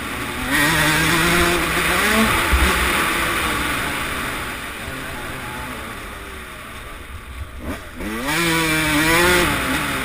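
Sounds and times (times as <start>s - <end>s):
two-stroke motocross engine revving: 0.0s - 10.0s.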